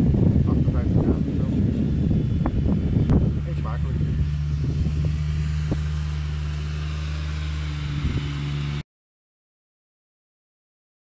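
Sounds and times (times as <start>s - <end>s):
motor humming: 0.0s - 8.8s.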